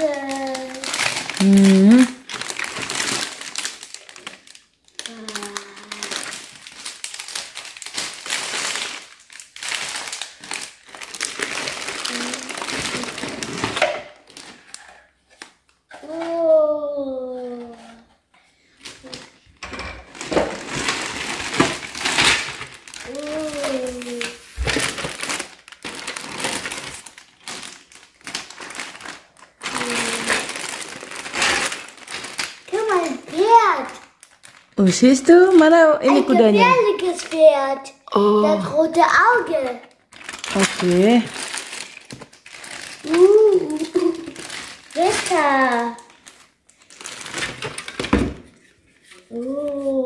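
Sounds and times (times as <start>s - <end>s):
plastic bags crinkling: 0.0s - 15.7s, 18.7s - 37.6s, 38.4s - 49.4s.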